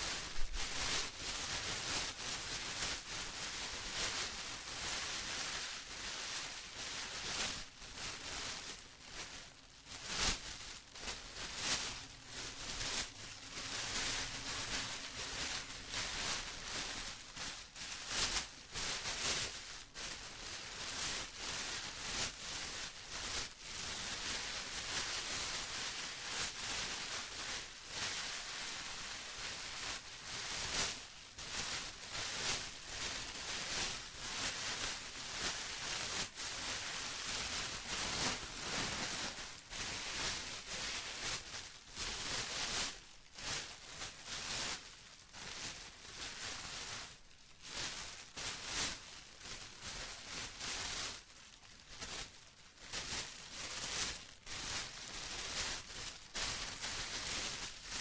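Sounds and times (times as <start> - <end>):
plastic crumpling and rustling: 0.0 - 58.0.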